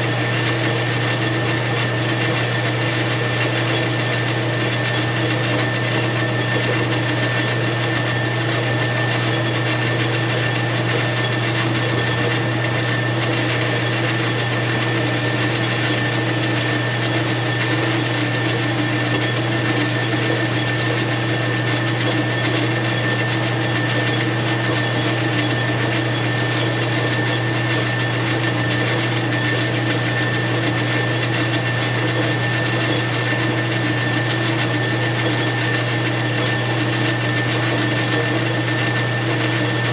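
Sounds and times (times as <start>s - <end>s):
lathe motor and gear hum: 0.0s - 39.9s.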